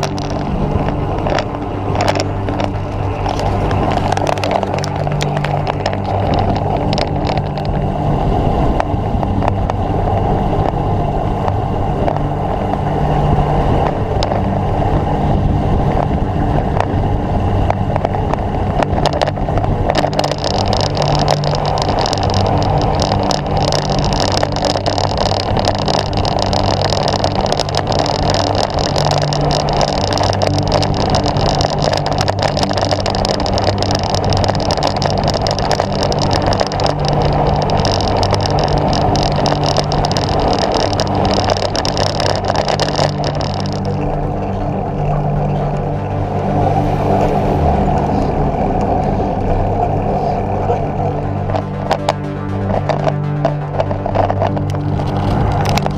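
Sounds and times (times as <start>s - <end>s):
bicycle tyres rolling on tarmac: 0.0s - 55.9s
wind on microphone: 0.0s - 55.9s.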